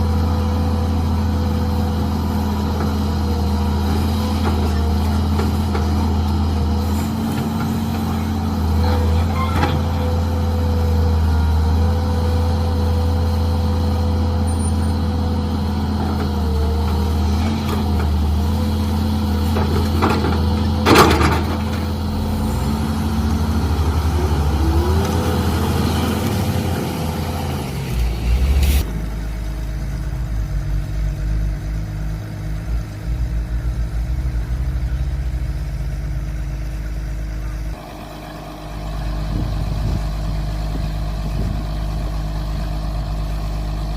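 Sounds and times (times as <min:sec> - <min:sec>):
excavator engine running: 0:00.0 - 0:43.9.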